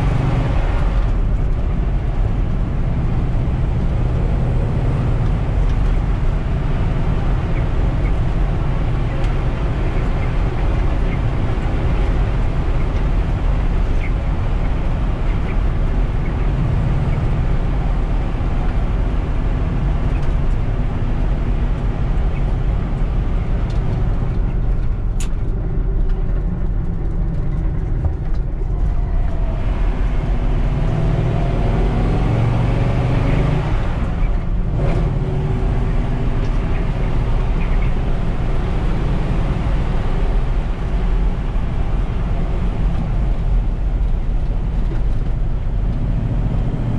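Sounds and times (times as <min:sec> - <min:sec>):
road and wind noise: 0:00.0 - 0:46.9
truck engine running: 0:00.0 - 0:46.9.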